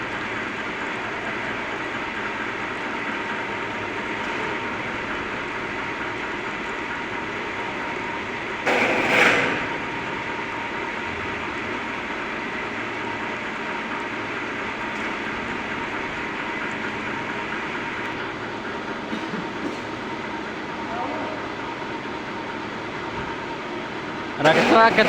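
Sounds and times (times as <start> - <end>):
industrial furnace din: 0.0 - 25.0.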